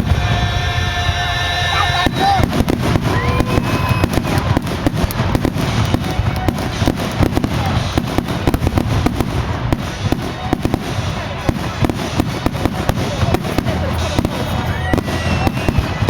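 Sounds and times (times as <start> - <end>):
fireworks bangs and cracks: 0.0 - 16.0
whistling fireworks: 0.0 - 16.0.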